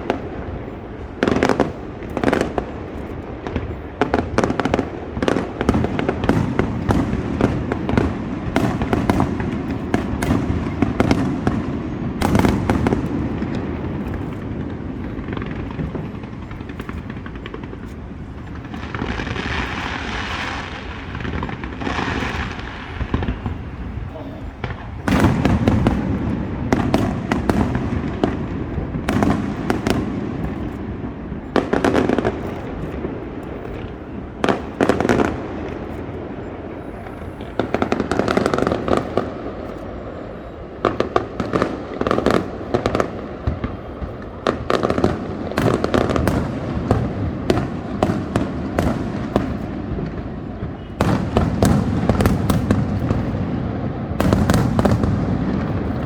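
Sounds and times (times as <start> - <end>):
continuous rumble: 0.0 - 56.0
fireworks booming: 0.0 - 56.0
fireworks crackling: 0.0 - 56.0.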